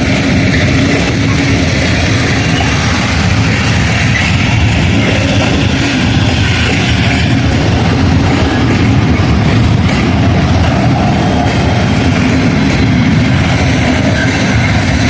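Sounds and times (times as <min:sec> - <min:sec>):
engine hum: 0:00.0 - 0:15.0
train rumbling past: 0:00.0 - 0:15.0.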